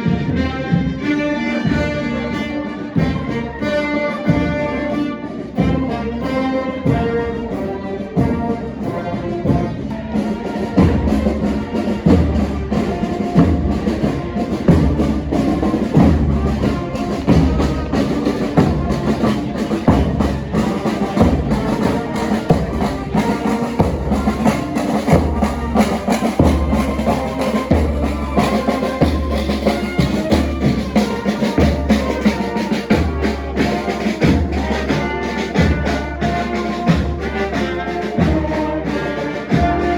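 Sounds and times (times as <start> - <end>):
marching band brass: 0.0 - 39.9.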